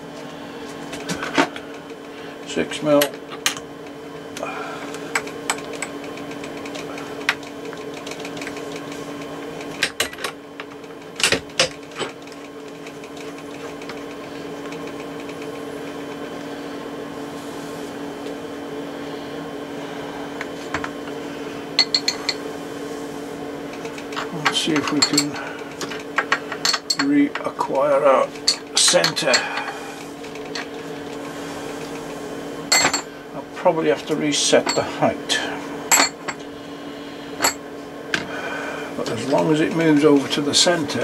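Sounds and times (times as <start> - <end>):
machine hum: 0.0 - 41.0.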